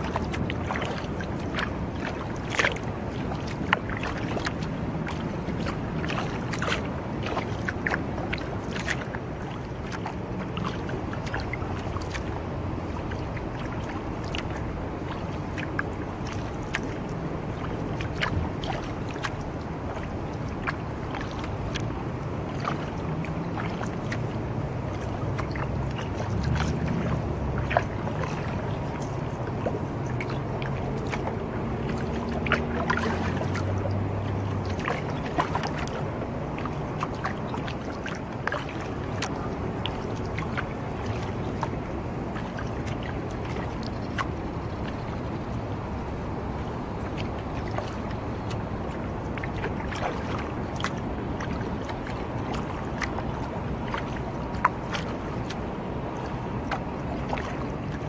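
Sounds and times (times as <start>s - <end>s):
small clicks along hull: 0.0s - 58.0s
water splashing off paddle: 0.0s - 58.0s.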